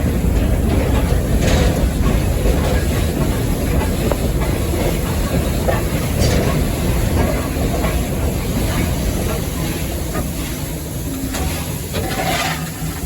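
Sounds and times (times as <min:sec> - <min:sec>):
steam locomotive rumbling: 0:00.0 - 0:13.0.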